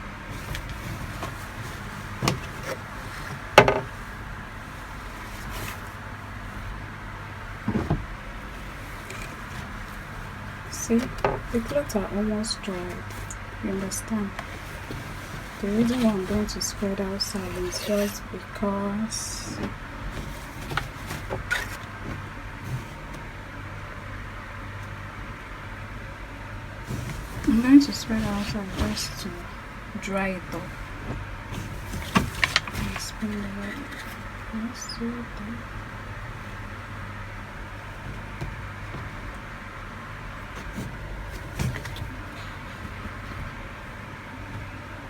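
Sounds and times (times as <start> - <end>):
low mechanical hum: 0.0 - 45.0
spin-dryer motor running: 0.0 - 45.0.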